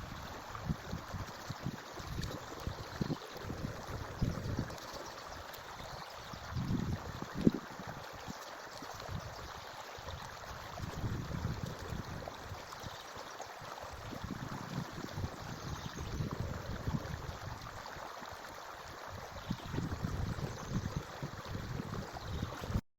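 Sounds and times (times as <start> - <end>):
stream running: 0.0 - 22.8.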